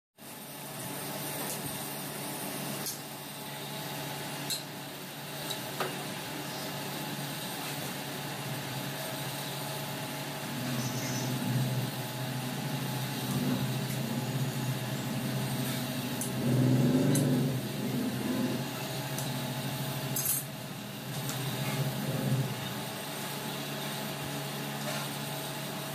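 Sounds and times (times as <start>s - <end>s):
steady low hum: 0.2s - 25.9s.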